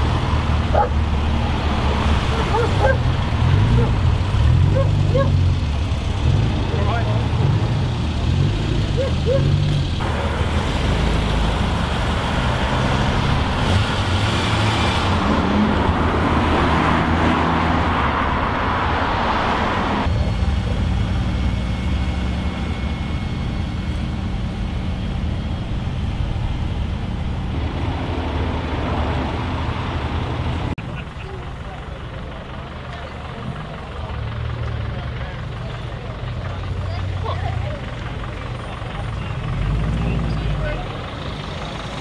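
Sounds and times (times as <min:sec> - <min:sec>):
car engines running at low revs: 0:00.0 - 0:19.0, 0:19.6 - 0:42.0
rush of engine and road noise: 0:00.0 - 0:42.0.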